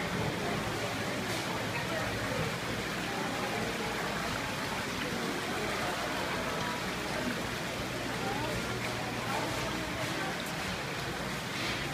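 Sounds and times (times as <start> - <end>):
faint voices: 0.0 - 11.9.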